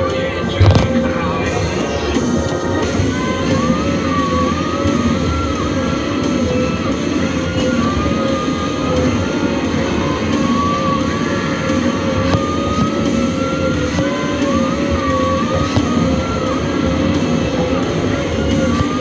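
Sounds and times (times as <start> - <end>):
harvester engine and hydraulics: 0.0 - 19.0
rock music: 0.0 - 19.0
wavering machine whine: 0.0 - 19.0.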